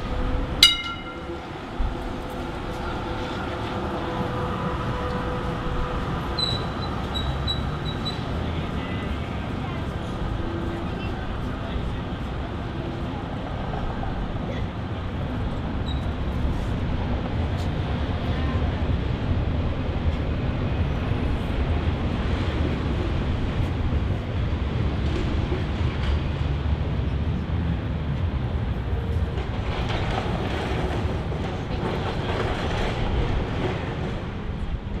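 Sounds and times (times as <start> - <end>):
city street noise: 0.0 - 35.0
train rattling: 0.0 - 35.0
train rumbling on viaduct: 0.0 - 35.0.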